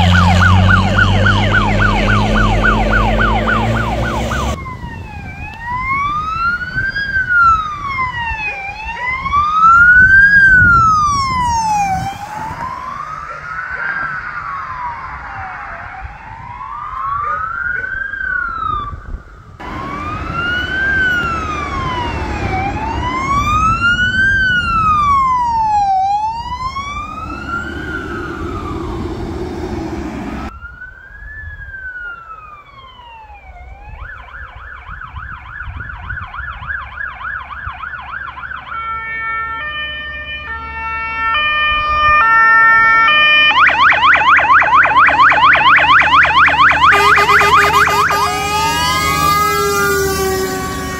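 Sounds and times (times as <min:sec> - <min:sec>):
fire engine siren yelping: 0:00.0 - 0:50.9
wailing siren: 0:00.0 - 0:50.9.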